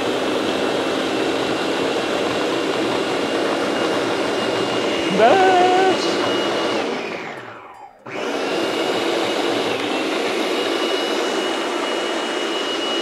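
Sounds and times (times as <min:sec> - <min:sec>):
food processor motor whining: 0:00.0 - 0:13.0.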